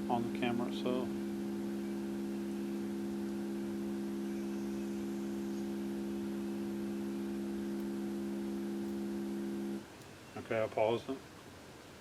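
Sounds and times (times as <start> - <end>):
low steady tone hum: 0.0 - 9.9.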